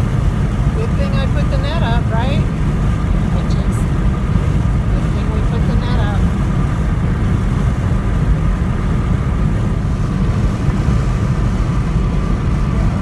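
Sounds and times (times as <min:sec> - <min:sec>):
wind and road noise in car: 0:00.0 - 0:13.0.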